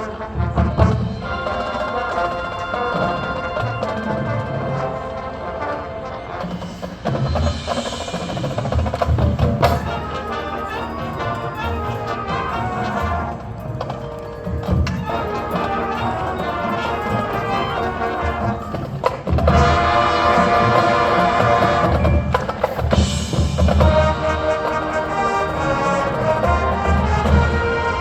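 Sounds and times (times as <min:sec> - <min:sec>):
brass chords: 0:00.0 - 0:28.0
marching drums and percussion: 0:00.0 - 0:28.0.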